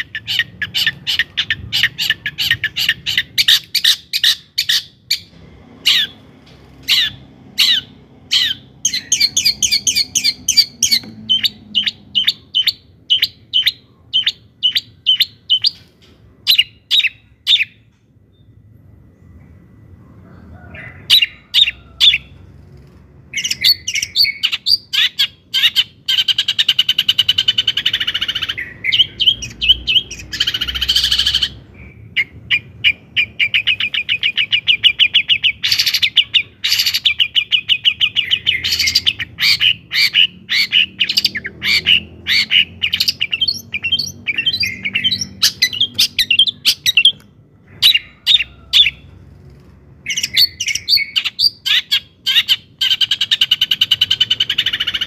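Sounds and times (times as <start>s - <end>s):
bird singing chattering song: 0.0s - 18.6s, 23.3s - 49.0s, 50.0s - 55.0s.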